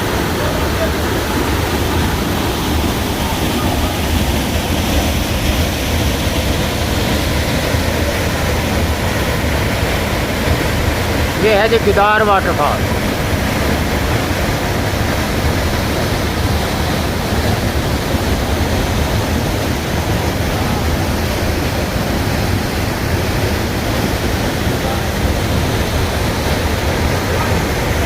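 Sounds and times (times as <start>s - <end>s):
waterfall crashing: 0.0s - 28.0s.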